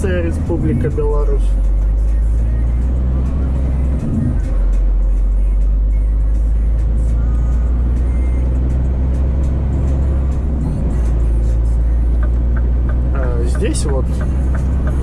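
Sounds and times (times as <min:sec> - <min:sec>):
faint music: 0:00.0 - 0:15.0
truck diesel engine drone: 0:00.0 - 0:15.0.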